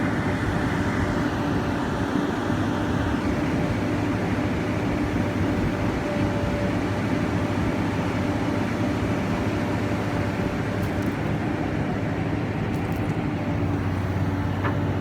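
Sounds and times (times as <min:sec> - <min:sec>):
excavator diesel engine running: 0:00.1 - 0:15.0.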